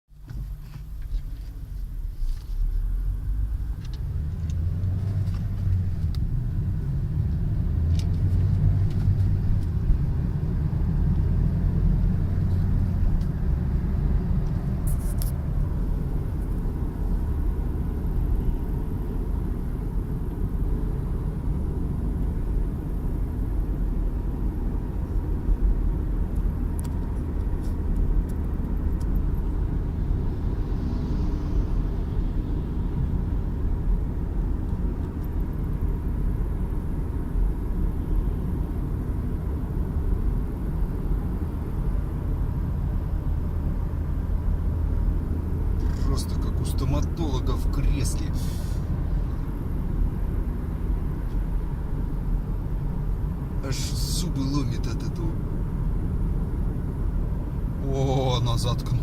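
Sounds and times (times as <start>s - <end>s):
car engine low rumble: 0.1s - 59.0s.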